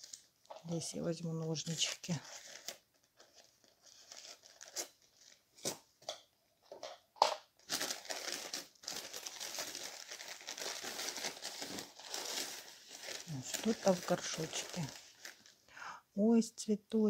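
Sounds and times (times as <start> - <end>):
newspaper crinkling and rustling: 0.0 - 5.8, 7.6 - 15.6.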